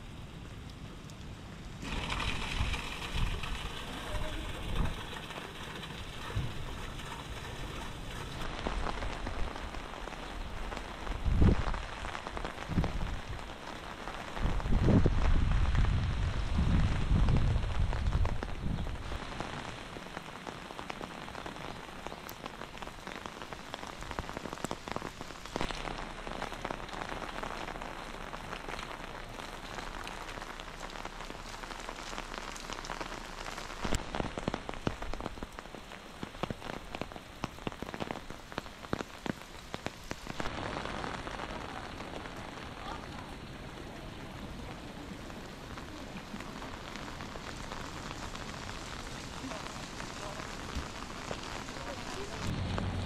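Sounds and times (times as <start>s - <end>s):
heavy rain on stone and roofs: 0.0s - 53.0s.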